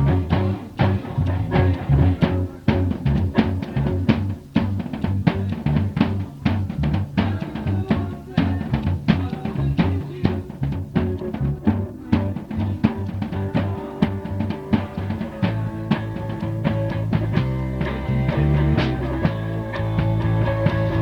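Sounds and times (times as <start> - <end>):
drum kit hits and rolls: 0.0 - 21.0
rock band jamming: 0.0 - 21.0.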